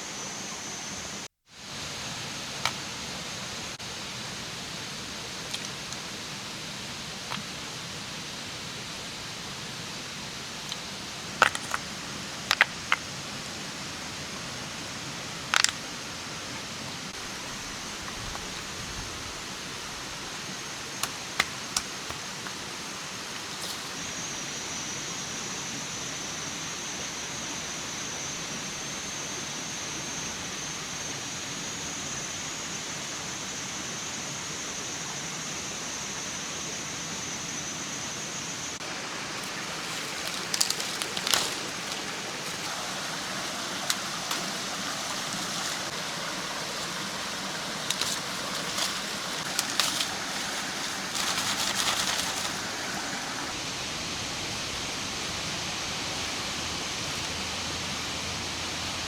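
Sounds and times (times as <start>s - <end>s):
outdoor hiss: 0.0s - 59.0s.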